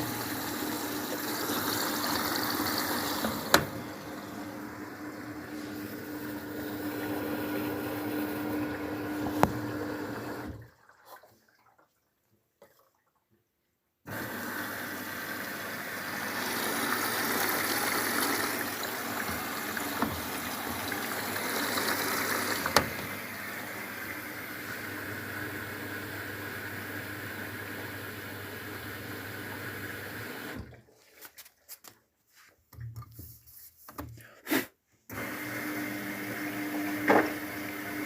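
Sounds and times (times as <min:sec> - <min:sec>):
water rushing into washing machine: 0:00.0 - 0:13.2, 0:14.1 - 0:31.5, 0:35.1 - 0:38.0.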